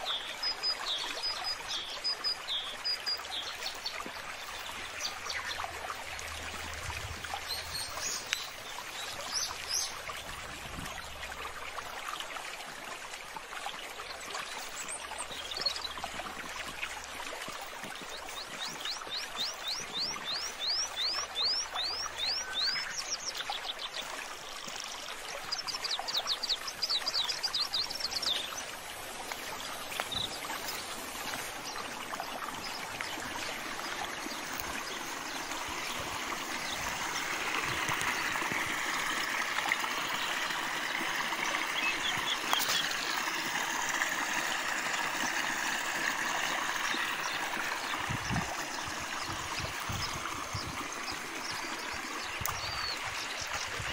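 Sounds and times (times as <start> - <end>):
water flowing in a channel: 0.0 - 53.9.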